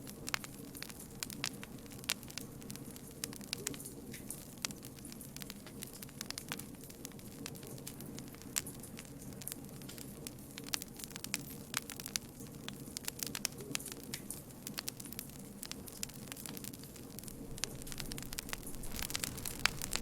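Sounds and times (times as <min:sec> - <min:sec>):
campfire pops and snaps: 0:00.0 - 0:20.0
rumble of flames: 0:00.0 - 0:20.0.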